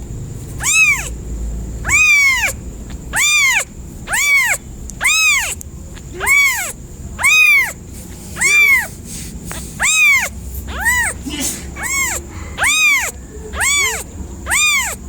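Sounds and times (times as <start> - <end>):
kitten meowing: 0.6 - 1.2, 1.8 - 7.8, 8.4 - 15.0.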